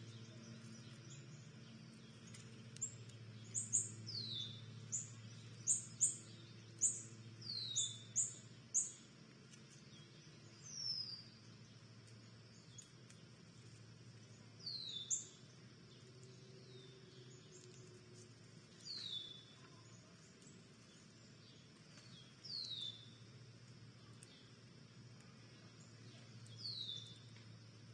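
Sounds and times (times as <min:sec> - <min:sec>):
birds chipping: 0:00.0 - 0:09.0, 0:09.6 - 0:23.3.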